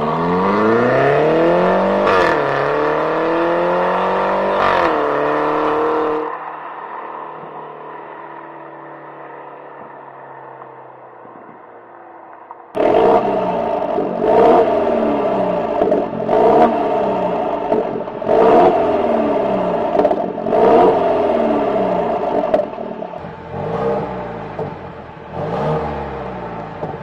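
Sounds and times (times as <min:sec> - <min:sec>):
car engine revving: 0:00.0 - 0:11.6, 0:12.7 - 0:27.0.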